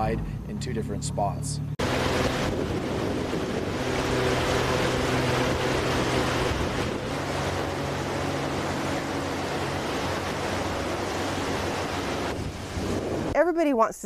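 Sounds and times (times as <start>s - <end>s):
engine humming: 0.0s - 13.5s
wind rushing: 1.8s - 13.5s
surf: 1.8s - 13.7s.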